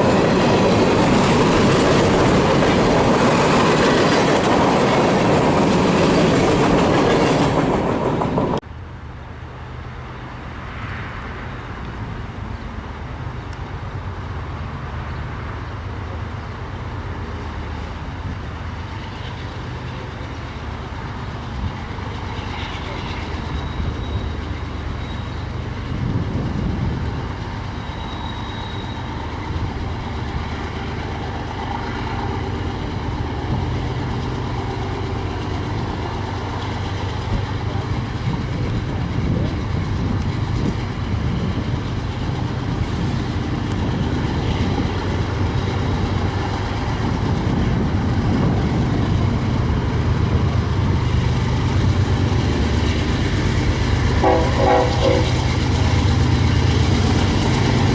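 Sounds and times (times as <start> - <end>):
freight train rumbling: 0.0 - 57.9.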